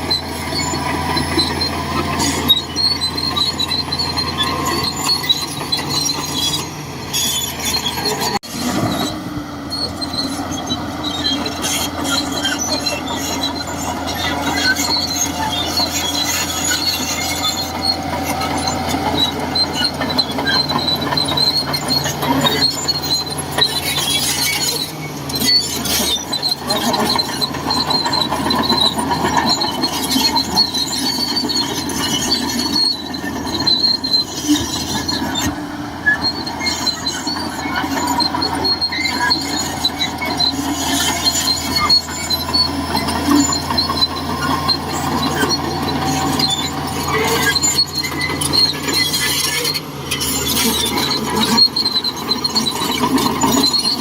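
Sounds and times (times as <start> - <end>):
bulldozer diesel engine: 0.0 - 54.0
steel tracks squealing and clanking: 0.0 - 54.0.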